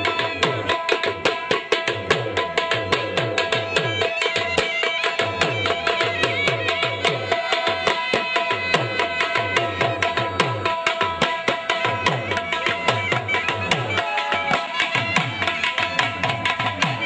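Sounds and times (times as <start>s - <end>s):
dhol drum dance rhythm: 0.0s - 17.0s.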